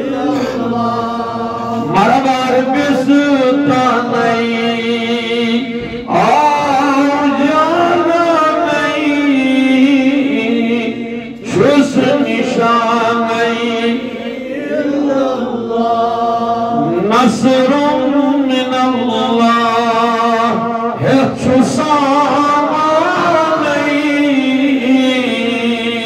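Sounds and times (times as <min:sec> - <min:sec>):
man chanting: 0:00.0 - 0:15.6, 0:16.2 - 0:26.0.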